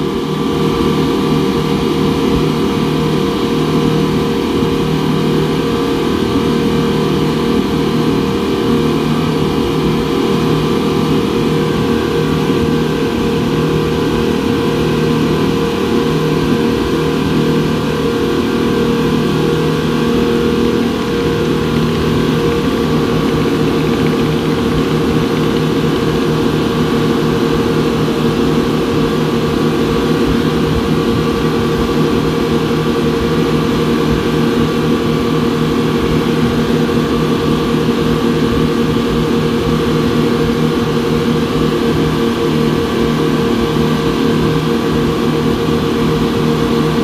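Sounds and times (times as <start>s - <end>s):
outboard engines running: 0.0s - 47.0s.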